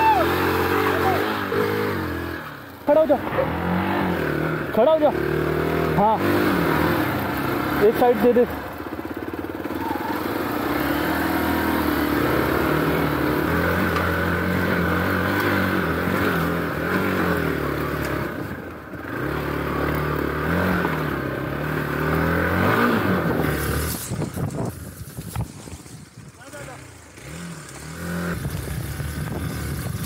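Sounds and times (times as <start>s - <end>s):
motorcycle engine revving hard: 0.0s - 24.8s, 26.5s - 30.0s.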